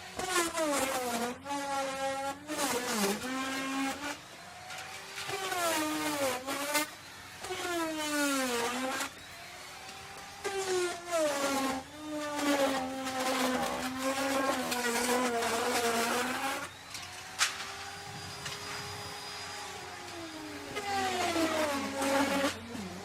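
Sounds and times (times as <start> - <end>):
router cutting wood: 0.0 - 23.0
wood router whining: 0.0 - 23.0.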